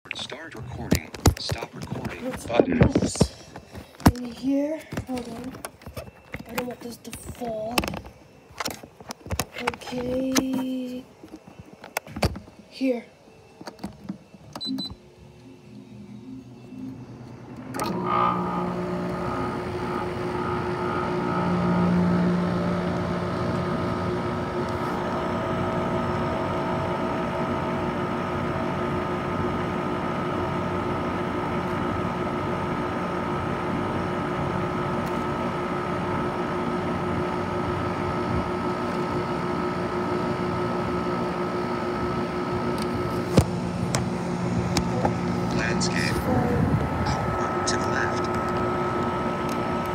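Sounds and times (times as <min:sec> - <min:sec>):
air conditioner fan blowing: 0:00.1 - 0:49.9
compressor humming: 0:00.1 - 0:49.9.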